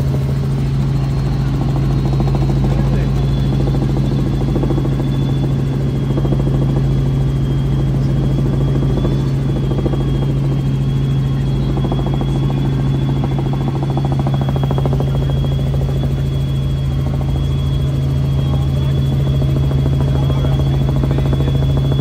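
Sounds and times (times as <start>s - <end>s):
helicopter rotor and engine drone: 0.0s - 22.0s
steady high whine: 0.0s - 22.0s.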